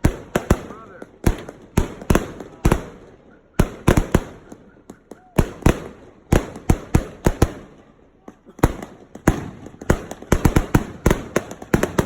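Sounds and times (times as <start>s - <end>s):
firework bangs: 0.0s - 12.0s.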